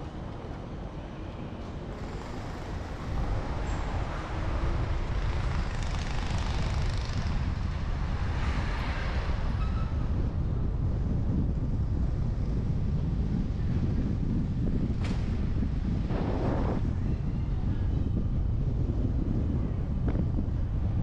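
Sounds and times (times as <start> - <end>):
street traffic noise: 0.0 - 21.0
wind buffeting microphone: 0.0 - 21.0.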